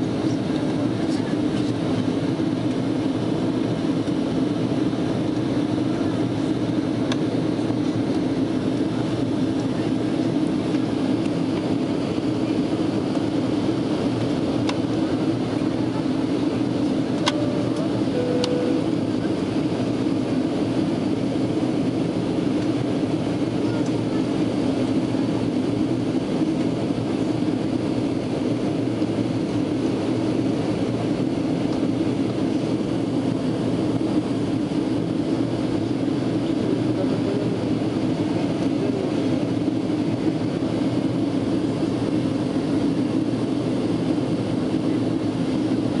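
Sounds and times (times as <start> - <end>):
jet engine cabin drone: 0.0 - 46.0.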